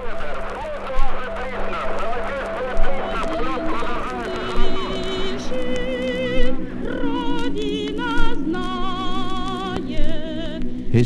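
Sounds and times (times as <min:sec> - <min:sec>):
musical accompaniment: 0:00.0 - 0:11.0
singing with heavy vibrato: 0:00.0 - 0:11.0.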